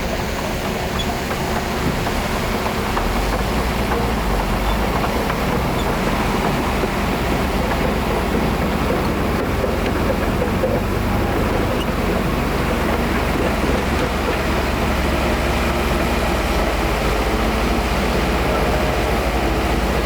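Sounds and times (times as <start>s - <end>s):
heavy diesel machinery rumbling: 0.0s - 20.0s.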